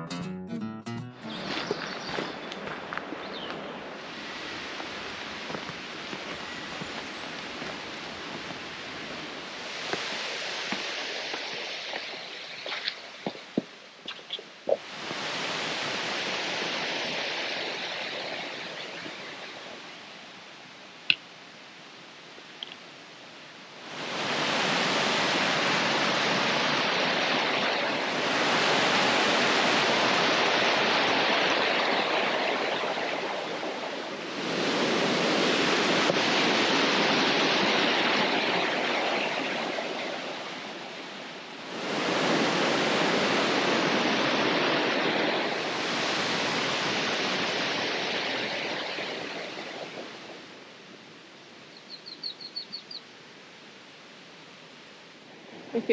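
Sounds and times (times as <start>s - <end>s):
brook water rushing: 1.2s - 51.4s.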